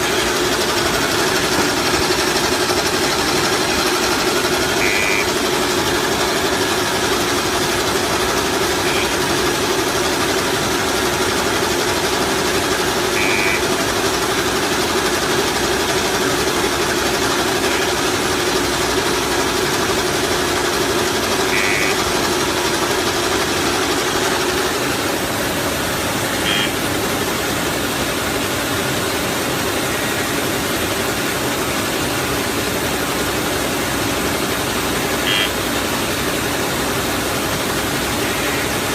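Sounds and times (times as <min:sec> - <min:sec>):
packaging machine humming: 0:00.0 - 0:38.9.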